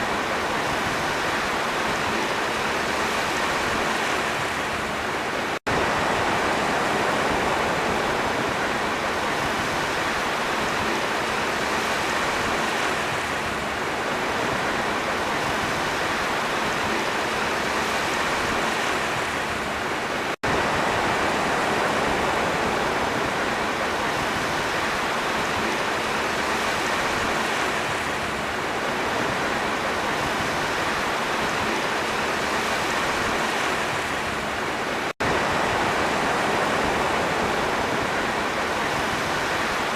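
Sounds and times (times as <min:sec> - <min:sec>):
sea surf washing ashore: 0:00.0 - 0:39.9.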